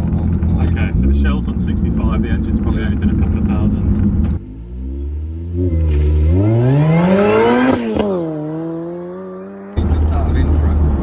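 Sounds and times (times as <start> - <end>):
car engine revving: 0.1 - 10.1.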